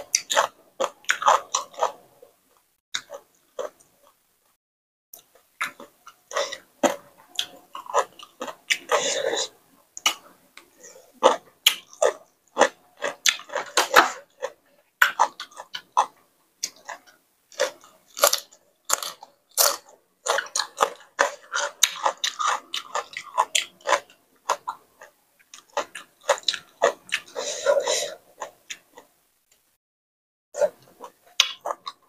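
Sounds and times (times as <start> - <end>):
person chewing crunchy food: 0.0 - 2.4, 3.0 - 4.2, 5.2 - 29.1, 30.6 - 32.0.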